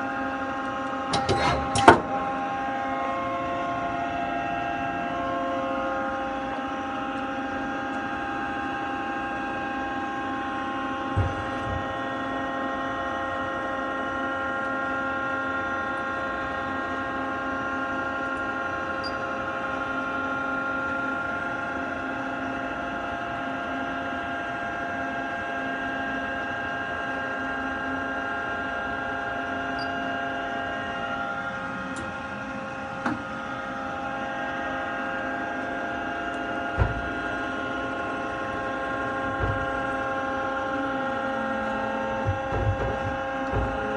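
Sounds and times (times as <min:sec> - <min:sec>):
lathe machine humming: 0:00.0 - 0:43.9.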